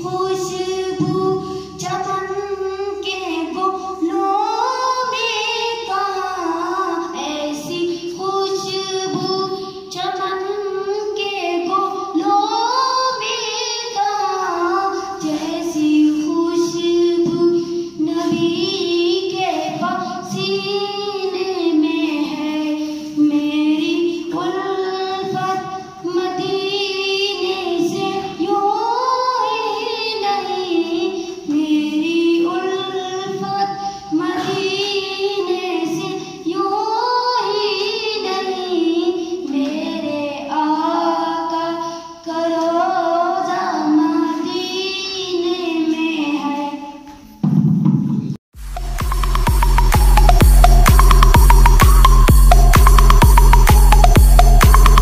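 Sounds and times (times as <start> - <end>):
boy singing into microphone: 0.0 - 47.4.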